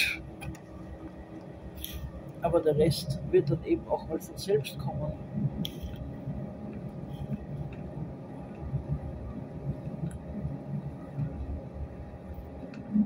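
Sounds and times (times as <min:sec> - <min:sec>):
faint steady hum: 0:00.0 - 0:13.0
train carriage rumble: 0:00.0 - 0:13.0.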